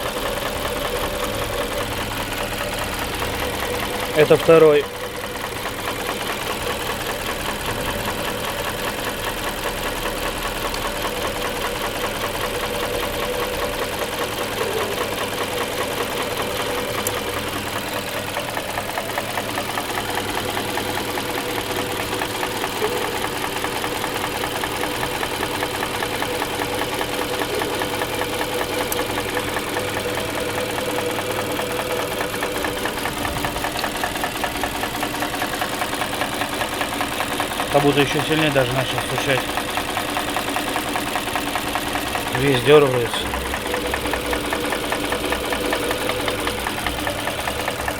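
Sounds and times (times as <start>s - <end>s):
car engine idling with rapid knock: 0.0s - 47.9s.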